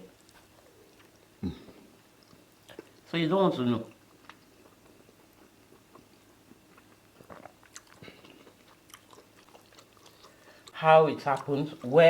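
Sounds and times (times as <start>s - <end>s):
faint chewing: 0.0s - 3.2s, 3.8s - 12.0s.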